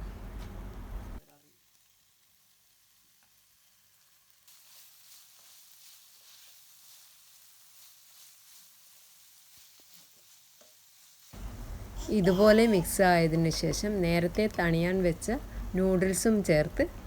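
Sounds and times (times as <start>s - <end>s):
food sizzling in a pan: 1.2s - 17.0s.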